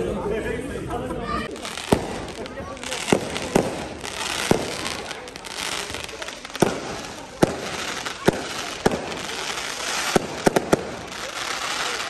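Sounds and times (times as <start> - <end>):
crackling hiss of fireworks: 1.4 - 12.0
firework bangs: 1.5 - 12.0.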